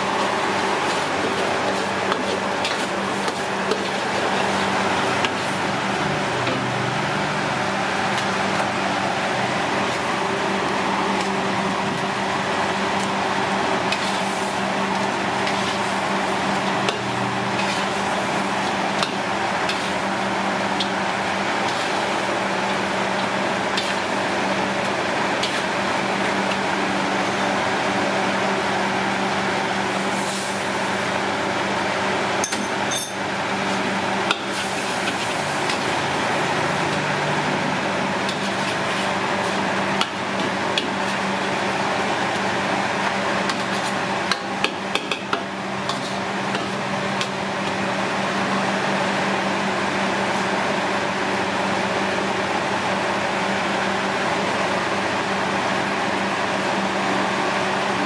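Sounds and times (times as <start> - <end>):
kitchen hum: 0.0 - 58.0.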